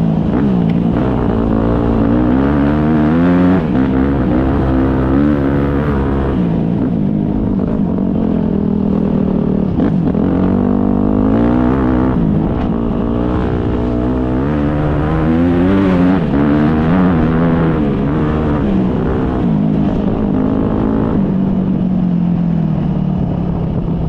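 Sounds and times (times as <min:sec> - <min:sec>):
dirt bike engines revving: 0:00.0 - 0:21.8.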